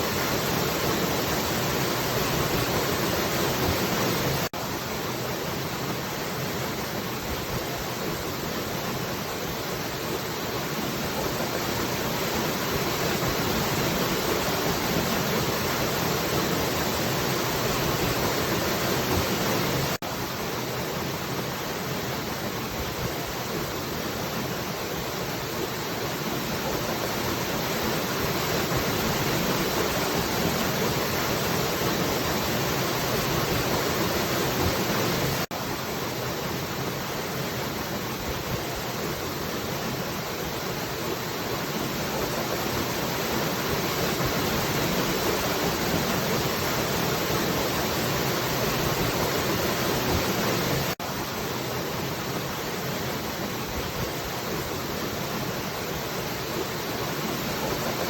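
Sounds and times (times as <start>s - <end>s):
falling water rushing: 0.0s - 58.0s.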